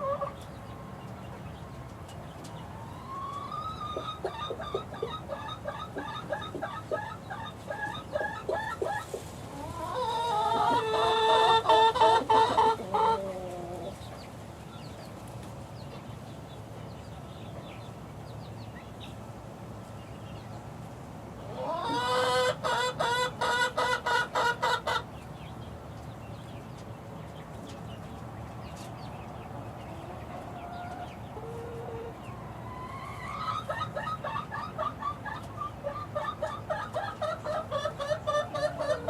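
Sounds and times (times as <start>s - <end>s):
chickens squawking: 0.0s - 16.3s, 21.1s - 25.6s, 27.5s - 39.0s
chickens peeping and clucking: 0.0s - 39.0s.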